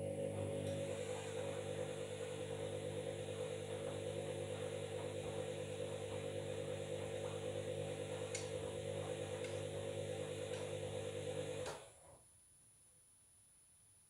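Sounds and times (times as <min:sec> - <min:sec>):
washing machine motor hum: 0:00.0 - 0:12.1.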